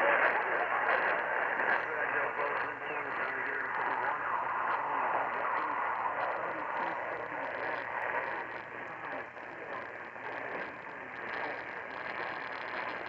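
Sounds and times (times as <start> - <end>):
faint garbled talk: 0.0 - 13.0
radio static and hiss: 0.0 - 13.0.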